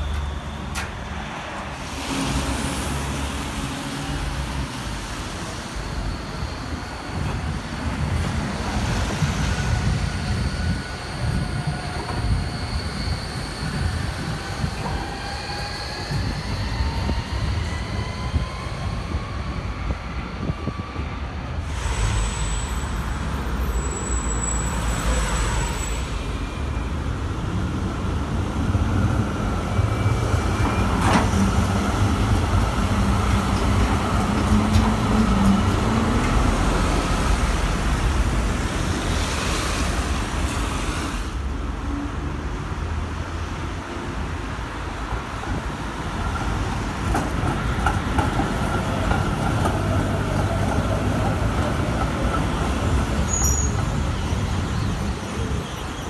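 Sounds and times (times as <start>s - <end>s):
road traffic: 0.0s - 56.0s
trams running on rails: 0.0s - 56.0s.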